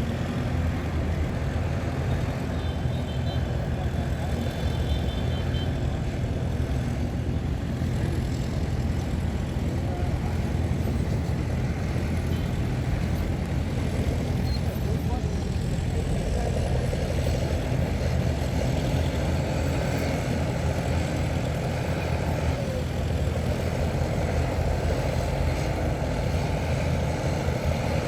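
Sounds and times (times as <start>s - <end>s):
diesel engine humming: 0.0s - 28.0s.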